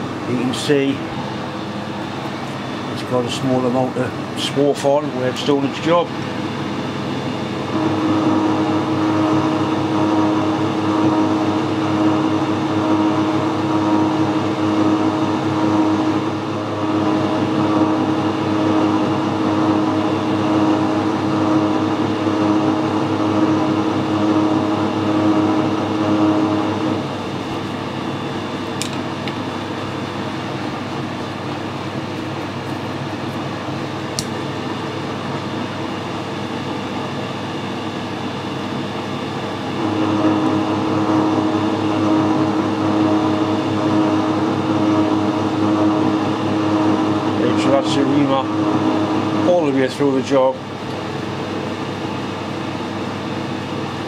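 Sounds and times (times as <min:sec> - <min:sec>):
lathe machine hum: 0:00.0 - 0:54.0.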